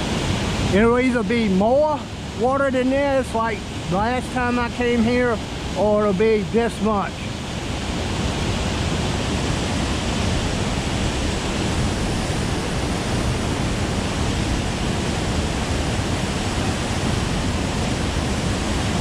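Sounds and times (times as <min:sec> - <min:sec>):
water rushing through spillway: 0:00.0 - 0:19.0.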